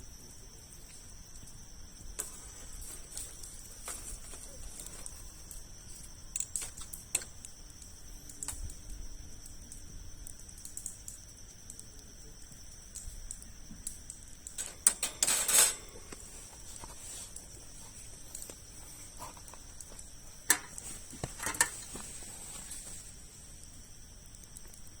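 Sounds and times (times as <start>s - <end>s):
campfire crackling: 0.1s - 25.0s.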